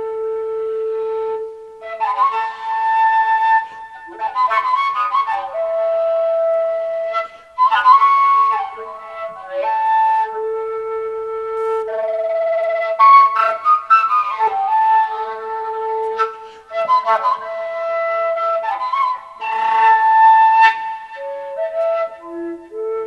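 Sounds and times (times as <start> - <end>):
dark folk ambient music: 0.0 - 23.0
solo wind instrument melody: 0.0 - 23.0.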